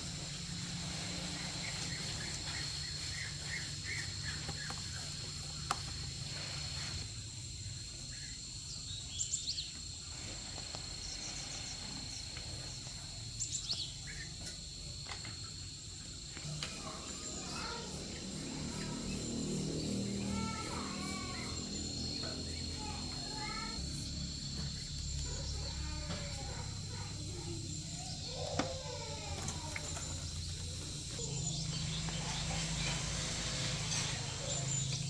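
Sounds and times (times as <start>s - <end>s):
high-pitched insect calls: 0.0s - 35.0s.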